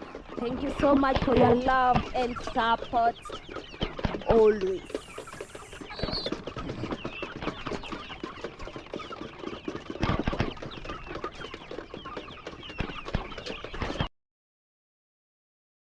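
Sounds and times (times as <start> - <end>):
chickens clucking and cheeping: 0.0 - 14.1.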